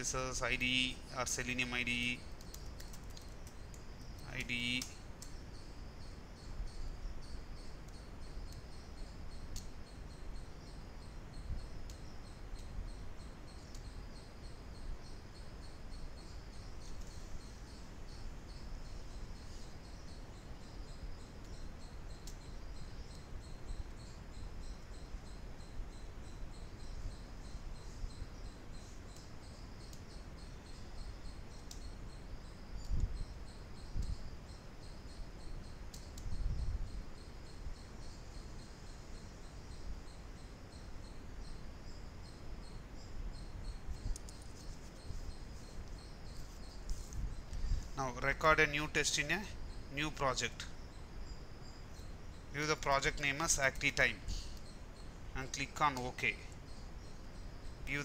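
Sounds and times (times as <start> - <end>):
high rapidly pulsing chirr: 0.0 - 58.0
low hum and hiss: 0.0 - 58.0.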